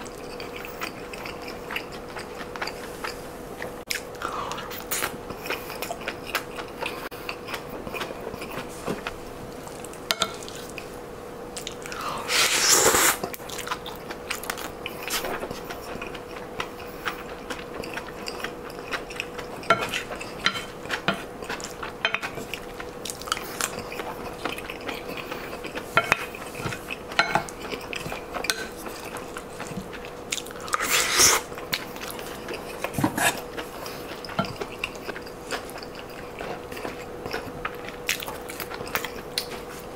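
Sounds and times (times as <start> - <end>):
chewing and biting: 0.0 - 10.9, 11.6 - 39.9.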